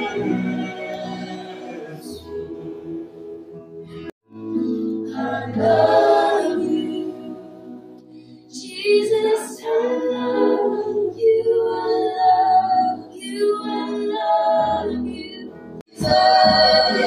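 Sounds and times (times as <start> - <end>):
congregation singing: 0.0 - 3.4, 4.7 - 7.9, 8.6 - 17.0.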